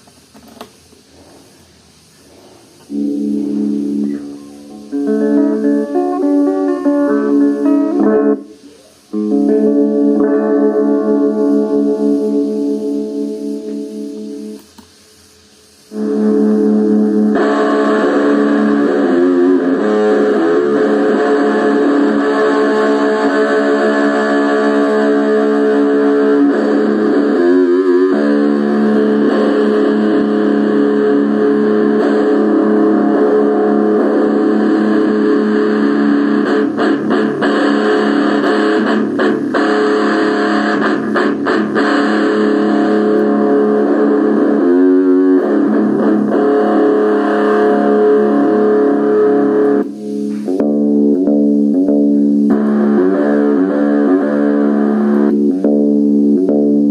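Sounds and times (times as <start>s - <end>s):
guitar music with held notes: 2.8s - 14.7s, 15.9s - 56.9s.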